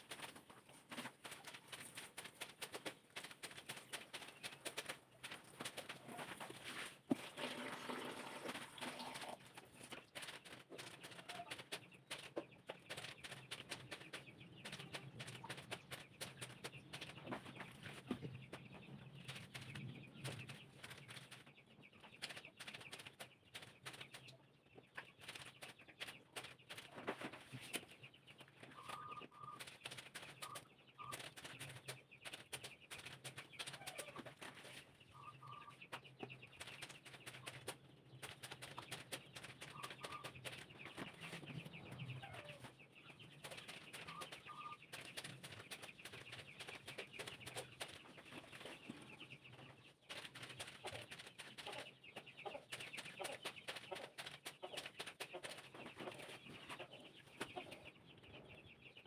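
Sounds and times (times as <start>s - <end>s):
clicks and rustling of handling: 8.4s - 57.8s.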